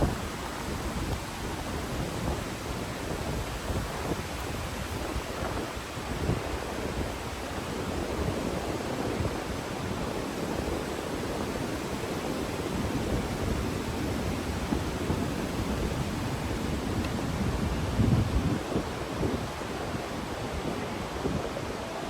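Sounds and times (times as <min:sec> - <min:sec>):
mountain stream rushing: 0:00.0 - 0:22.0.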